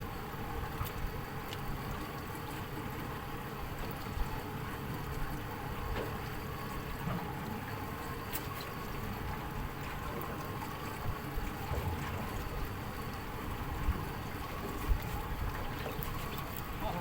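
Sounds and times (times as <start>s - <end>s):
boat motor running: 0.0s - 17.0s
water: 0.0s - 17.0s.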